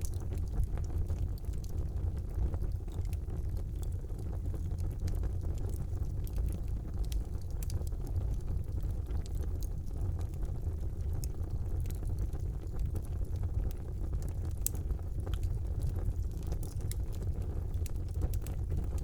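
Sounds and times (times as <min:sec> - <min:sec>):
fire crackling and popping: 0:00.0 - 0:19.0
fire rumbling in fireplace: 0:00.0 - 0:19.0.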